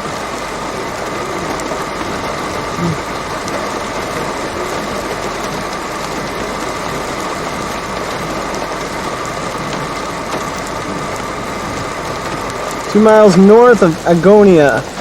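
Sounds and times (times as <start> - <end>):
vehicle engine and cabin noise: 0.0 - 15.0.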